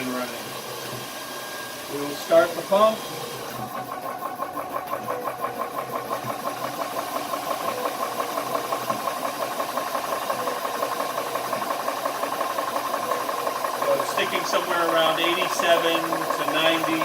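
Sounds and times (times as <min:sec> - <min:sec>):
air compressor pumping: 0:00.0 - 0:17.0
cooling fan running: 0:00.0 - 0:17.0.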